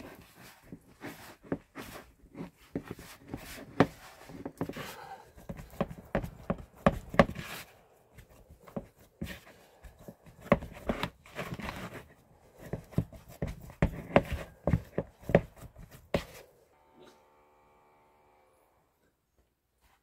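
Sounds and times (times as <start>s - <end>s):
dough squelching while kneaded: 0.0s - 16.7s
rustling and scraping: 0.0s - 16.7s.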